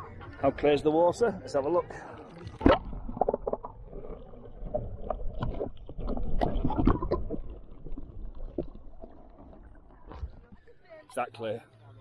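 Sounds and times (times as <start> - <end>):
low underwater rumble: 0.0 - 10.9
muffled underwater bubbles and sloshing: 0.0 - 11.1.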